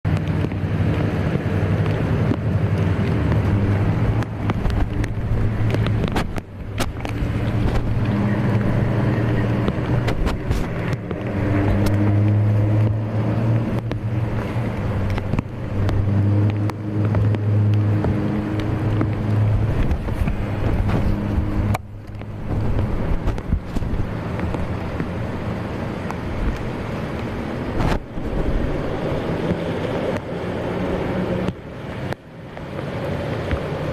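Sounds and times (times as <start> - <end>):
engine droning hum: 0.0 - 33.9
outdoor noise: 0.0 - 33.9.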